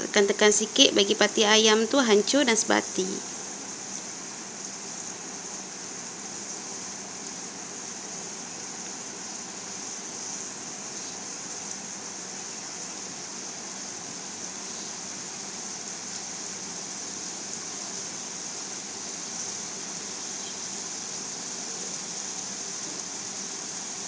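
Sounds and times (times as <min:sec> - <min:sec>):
spice paste sizzling in a wok: 0:00.0 - 0:24.0.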